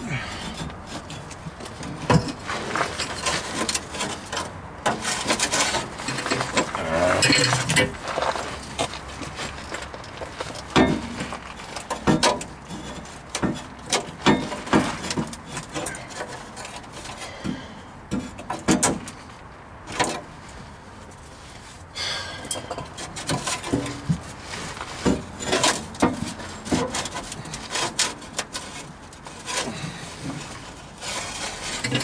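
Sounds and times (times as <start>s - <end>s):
metal tools and pipe clanking: 0.0s - 8.0s, 10.6s - 19.1s, 22.3s - 32.0s.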